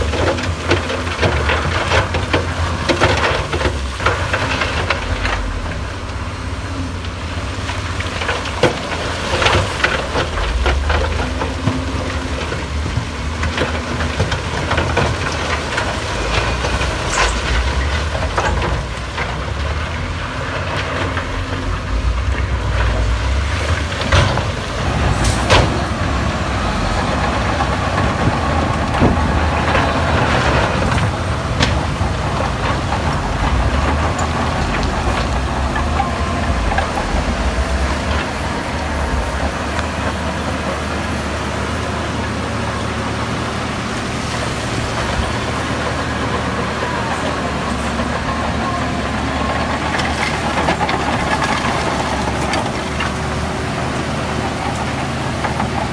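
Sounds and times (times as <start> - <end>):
diesel machinery engine drone: 0.0 - 55.9.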